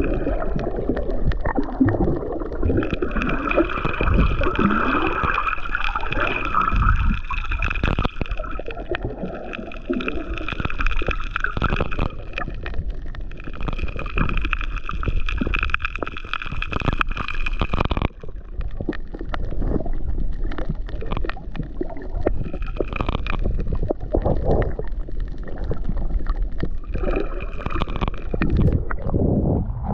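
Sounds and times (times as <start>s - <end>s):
muffled underwater sloshing: 0.0s - 29.9s.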